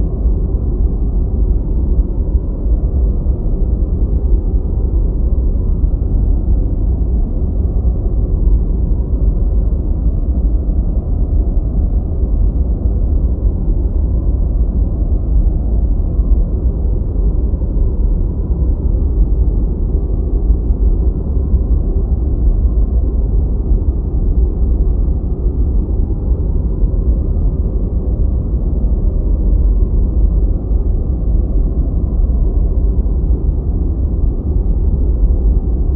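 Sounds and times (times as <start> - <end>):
deep white noise: 0.0 - 35.9.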